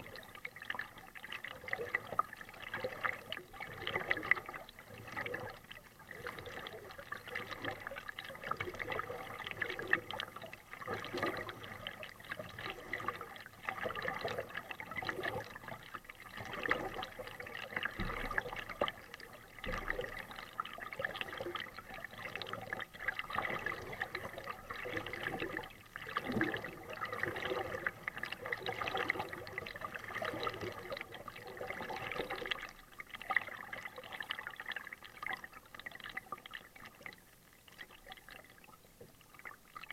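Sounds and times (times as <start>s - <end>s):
paddle splashing water: 0.0s - 39.9s.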